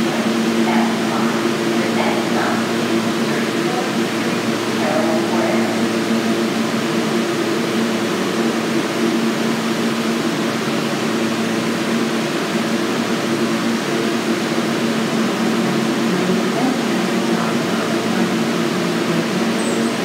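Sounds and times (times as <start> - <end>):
train equipment hum: 0.0 - 20.0.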